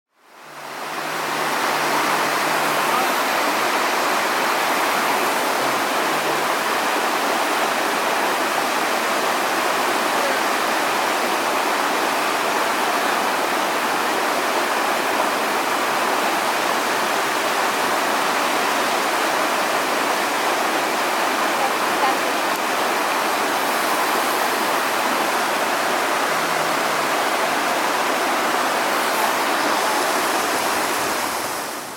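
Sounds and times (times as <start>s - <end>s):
waterfall rushing: 0.2s - 31.9s.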